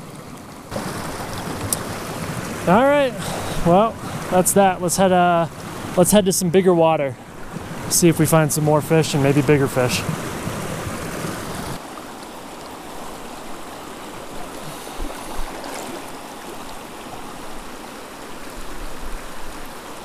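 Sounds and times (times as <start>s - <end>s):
creek rushing over boulders: 0.0s - 20.0s.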